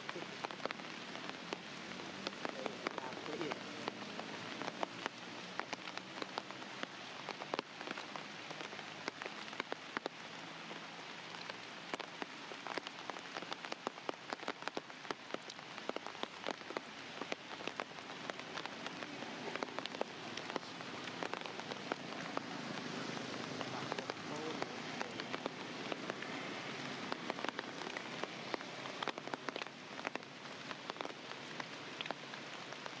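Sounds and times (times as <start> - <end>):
rain falling: 0.0 - 33.0
raindrops hitting a surface: 0.0 - 33.0.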